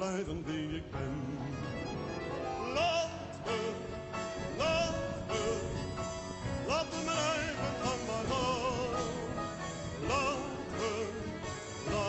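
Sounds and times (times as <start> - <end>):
background song: 0.0 - 12.0.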